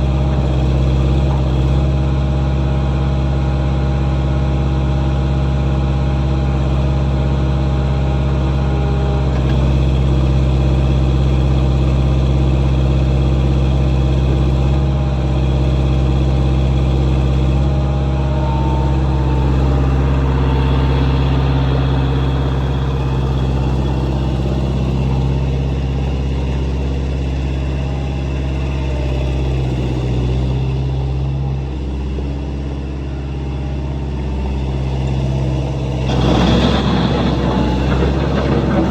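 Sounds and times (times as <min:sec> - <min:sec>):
wheel loader engine running: 0:00.0 - 0:38.9.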